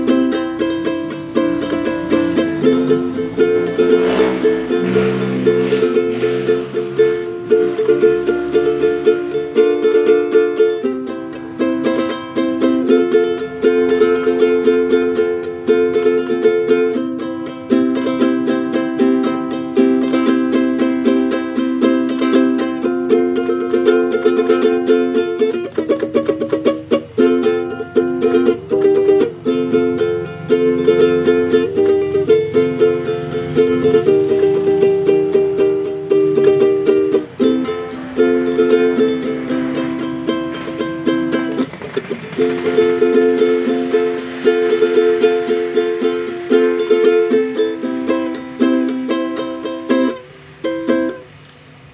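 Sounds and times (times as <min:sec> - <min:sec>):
ukulele strummed in chords: 0:00.0 - 0:51.9.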